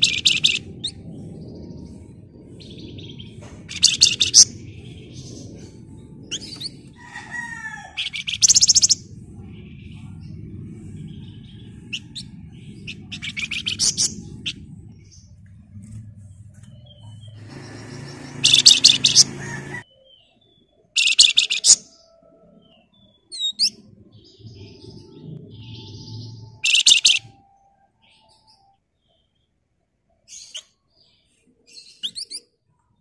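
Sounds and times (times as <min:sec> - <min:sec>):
bird high chirps: 0:00.0 - 0:15.4, 0:16.6 - 0:29.5, 0:30.3 - 0:32.6.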